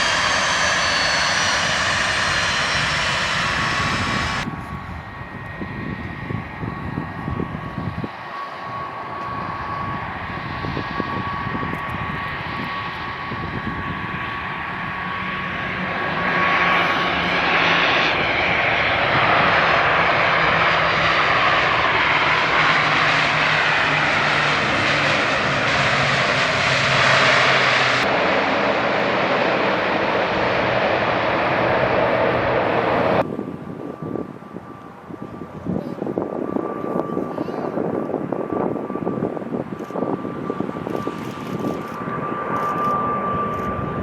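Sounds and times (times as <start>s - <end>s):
airliner engines running: 0.0s - 44.0s
high engine whine: 0.0s - 44.0s.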